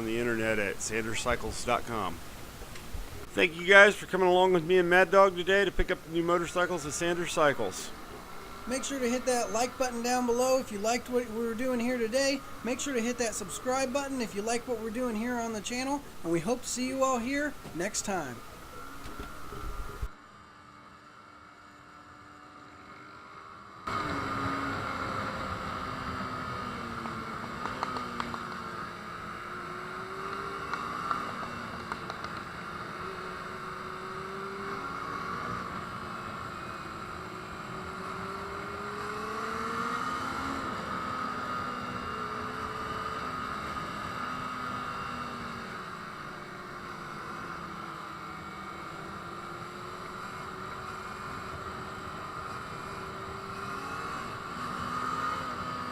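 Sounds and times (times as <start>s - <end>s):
motorcycle engine accelerating: 0.0s - 20.1s, 22.8s - 55.9s.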